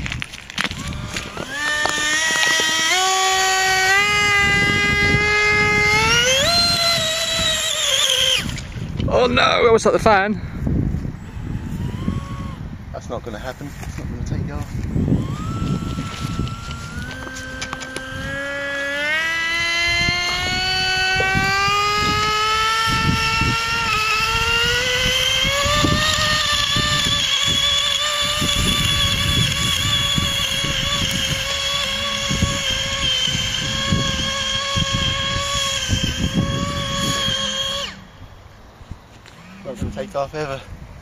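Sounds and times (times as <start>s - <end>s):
wind buffeting microphone: 0.0s - 41.0s
model boat motor whining: 0.6s - 9.3s, 11.1s - 12.8s, 14.8s - 38.4s, 39.2s - 40.5s.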